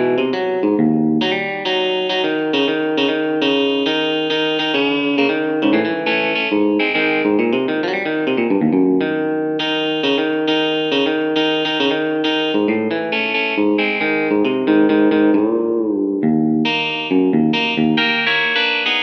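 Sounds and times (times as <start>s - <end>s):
electric guitar blues riff: 0.0s - 19.0s.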